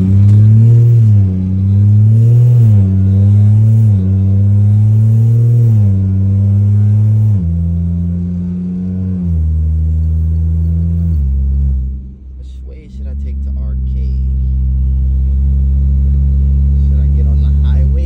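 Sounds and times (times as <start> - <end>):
car engine accelerating through gears: 0.0 - 18.0.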